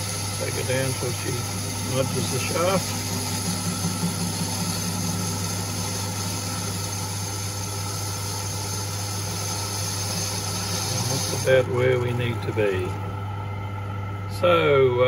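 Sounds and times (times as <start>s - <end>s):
metal lathe humming: 0.0s - 14.8s.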